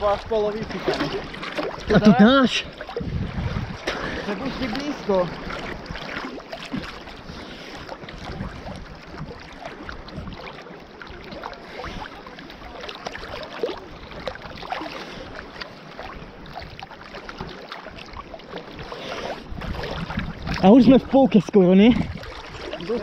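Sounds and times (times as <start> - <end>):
sea water sloshing and splashing: 0.0 - 23.0
swimming stroke splashes: 0.0 - 23.0.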